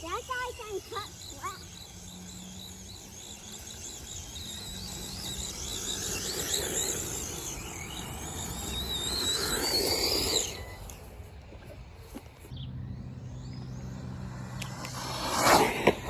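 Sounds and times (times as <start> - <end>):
electric motor whining: 0.0 - 16.0
tyre and ground noise: 0.0 - 16.0.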